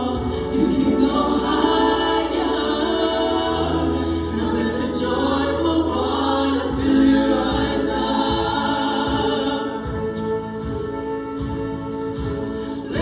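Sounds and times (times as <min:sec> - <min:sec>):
choir singing: 0:00.0 - 0:13.0
live backing band: 0:00.0 - 0:13.0
low beats: 0:00.0 - 0:13.0.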